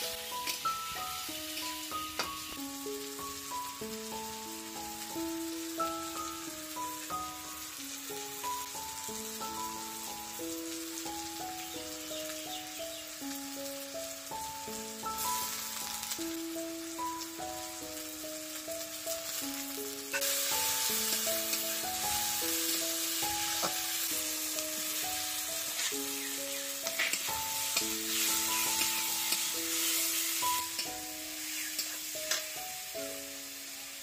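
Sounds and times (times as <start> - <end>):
soft background music: 0.0 - 34.0
vegetables sizzling in oil: 0.0 - 34.0.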